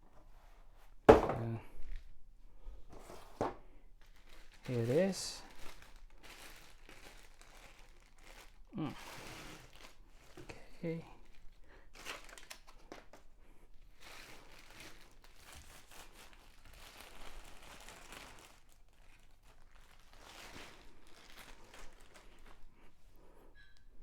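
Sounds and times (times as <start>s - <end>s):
packaging crinkling and rustling: 2.9s - 22.8s.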